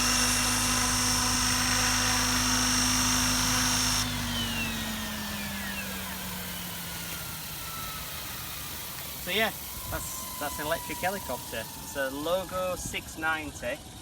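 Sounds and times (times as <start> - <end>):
electric helicopter motor whine: 0.0 - 14.0.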